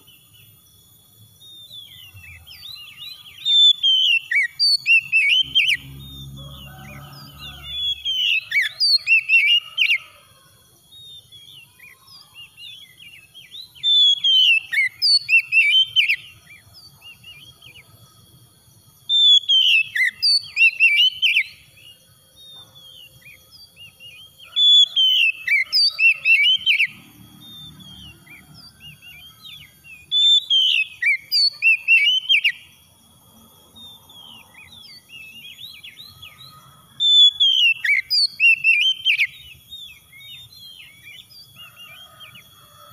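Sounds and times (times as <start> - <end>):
bird whistling song: 1.4 - 10.2, 10.9 - 17.9, 19.0 - 32.8, 33.8 - 42.4.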